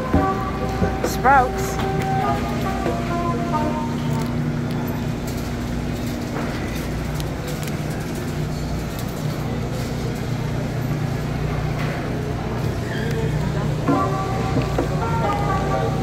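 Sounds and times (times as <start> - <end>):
low store hum: 0.0 - 16.0
shopping cart rolling on tiles: 0.6 - 16.0.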